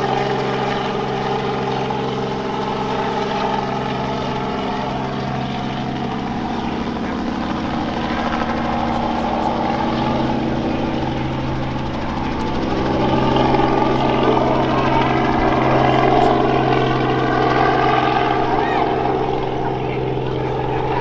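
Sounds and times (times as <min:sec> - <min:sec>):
helicopter drone overhead: 0:00.0 - 0:21.0.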